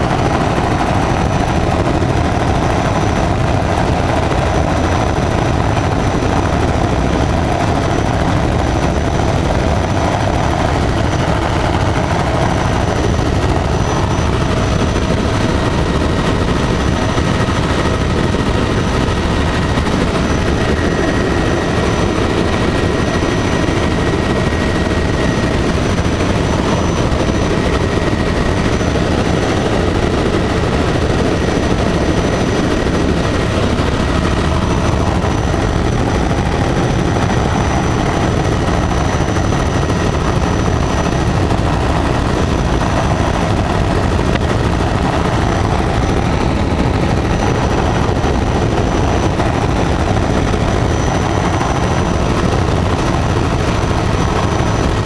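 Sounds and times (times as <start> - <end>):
helicopter rotor beat and engine: 0.0 - 55.0.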